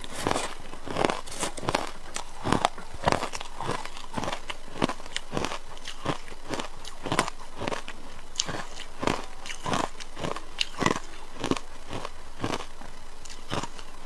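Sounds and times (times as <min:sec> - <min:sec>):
ice crunching being chewed: 0:00.0 - 0:14.0.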